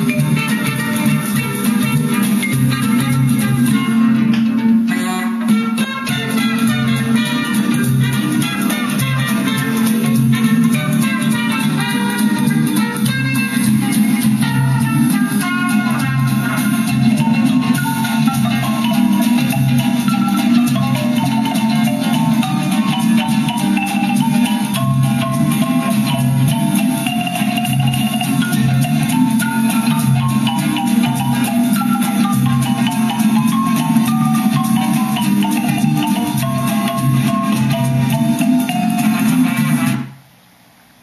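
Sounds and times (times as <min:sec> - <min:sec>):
quick stepping melody: 0:00.0 - 0:40.1
music from vinyl record: 0:00.0 - 0:40.2.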